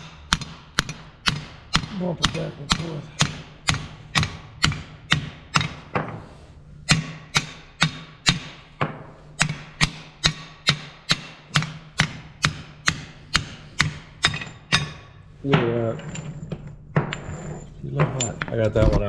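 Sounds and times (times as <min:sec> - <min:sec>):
hammer striking metal pin: 0:00.0 - 0:06.1, 0:06.8 - 0:17.3.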